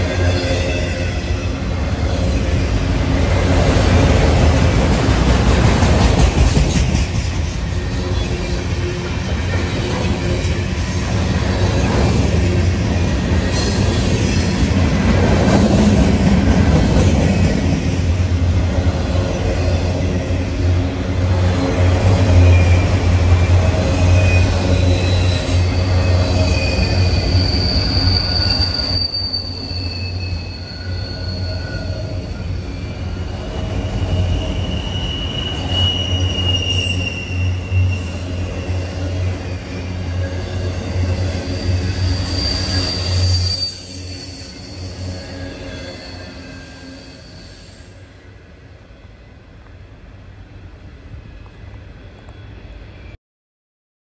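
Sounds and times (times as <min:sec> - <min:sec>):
train wheels squealing: 0:00.0 - 0:04.7, 0:06.2 - 0:14.8, 0:21.5 - 0:50.1, 0:51.2 - 0:53.2
freight train rumbling past: 0:00.0 - 0:53.2.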